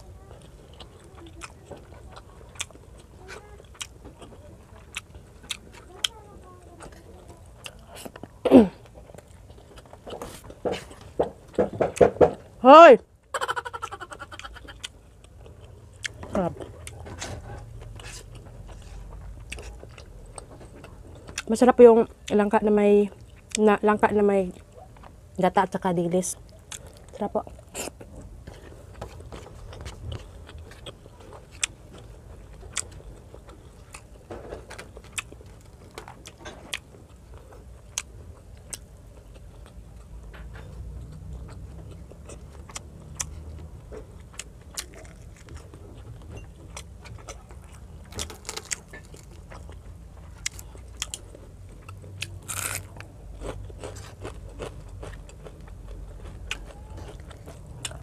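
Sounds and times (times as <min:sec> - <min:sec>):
person chewing food: 0:00.0 - 0:12.6, 0:13.3 - 0:21.6, 0:26.3 - 0:58.0.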